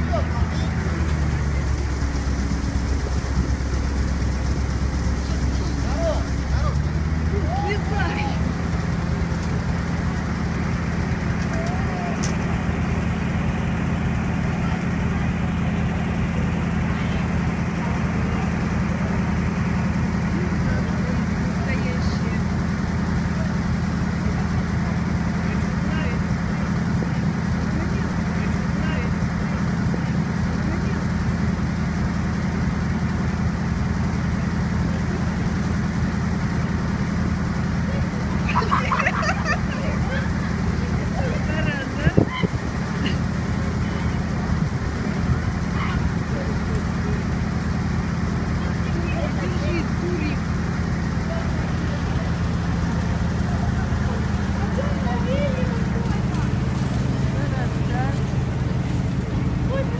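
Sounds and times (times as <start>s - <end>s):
fire truck engine running: 0.0s - 59.9s.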